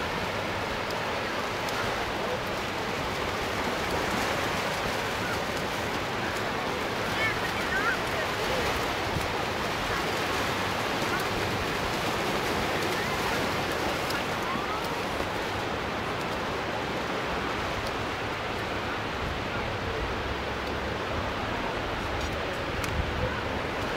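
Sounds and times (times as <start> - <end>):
faint voices: 0.0 - 23.9
surf washing onto beach: 0.0 - 23.9.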